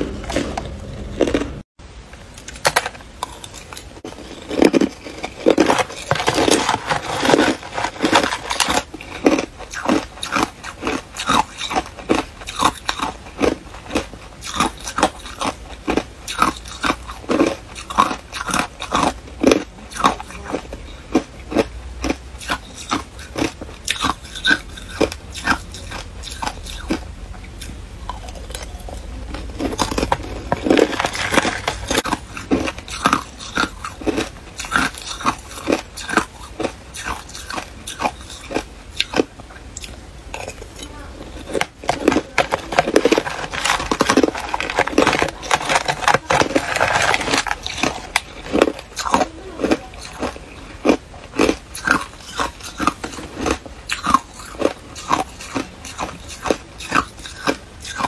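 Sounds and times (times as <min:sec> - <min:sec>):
ice crunched between teeth: 0:02.4 - 0:27.0, 0:28.2 - 0:40.8, 0:41.4 - 0:58.0.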